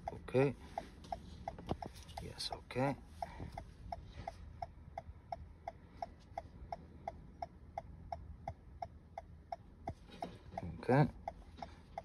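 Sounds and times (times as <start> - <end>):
hazard light flasher ticking: 0.0 - 12.0.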